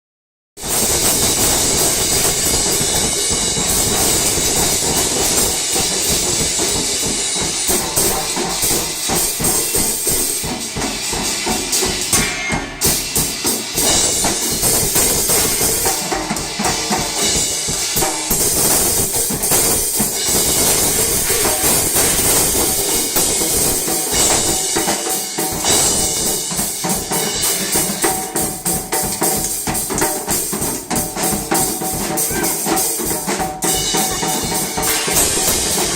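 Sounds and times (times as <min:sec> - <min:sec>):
fast drumming on drum kit: 0:00.6 - 0:35.9.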